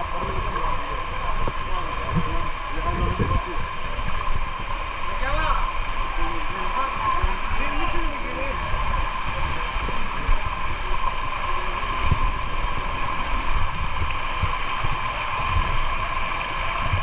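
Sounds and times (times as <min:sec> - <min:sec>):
waterfall and stream rushing: 0:00.0 - 0:17.0
wind buffeting microphone: 0:00.0 - 0:17.0.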